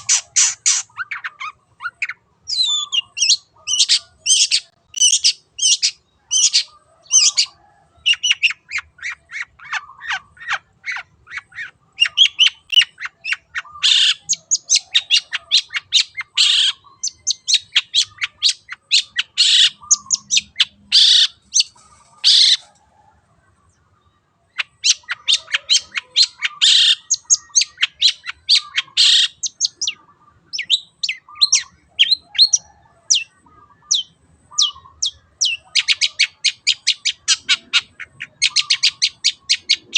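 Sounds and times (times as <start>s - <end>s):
bird singing sharp harsh notes: 0.0s - 22.7s, 24.2s - 39.9s.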